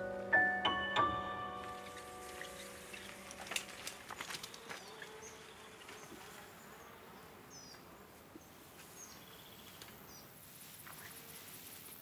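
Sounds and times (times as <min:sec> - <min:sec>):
insect buzzing: 0:01.8 - 0:12.0.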